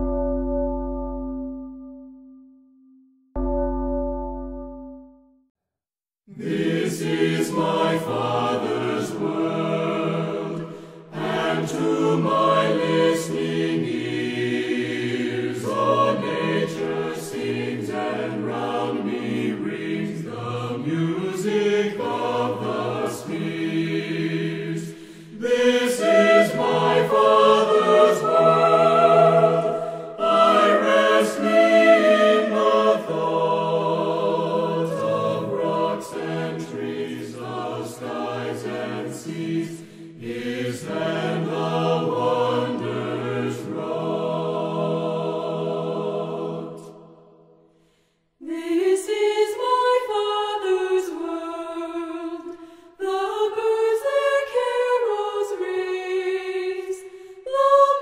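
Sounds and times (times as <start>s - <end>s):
choir singing in harmony: 6.3s - 47.7s, 48.4s - 58.0s.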